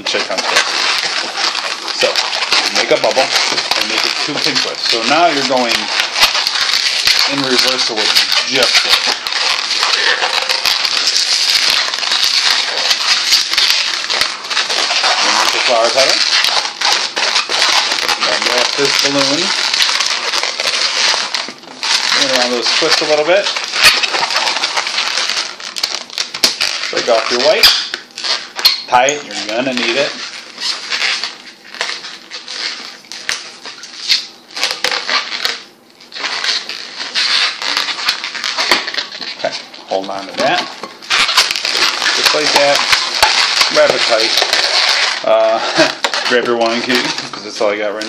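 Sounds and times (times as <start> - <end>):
balloon rubber rustling: 0.0 - 48.0.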